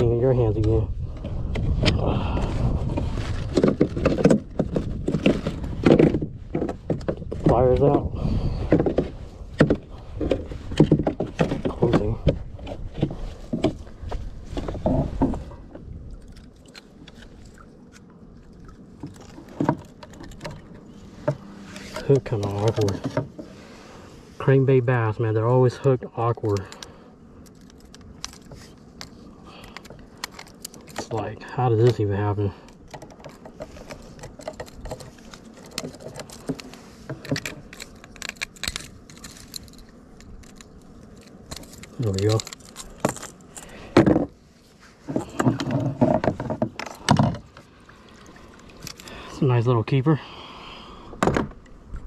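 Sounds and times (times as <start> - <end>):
fishing gear clicking and rattling: 0.5 - 23.6, 26.2 - 44.4, 45.1 - 49.4.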